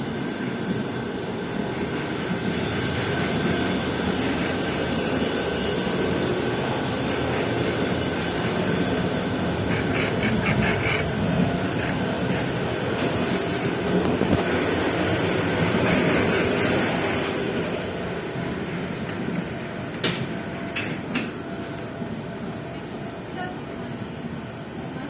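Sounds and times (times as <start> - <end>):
faint train whine: 0.0 - 25.0
train rumbling: 0.0 - 25.0.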